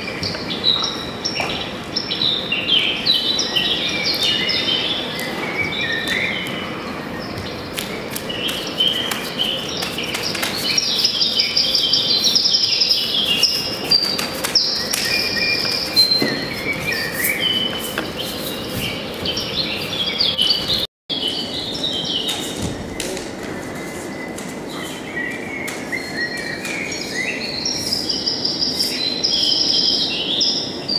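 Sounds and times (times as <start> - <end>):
recorded birdsong over loudspeaker: 0.0 - 30.9.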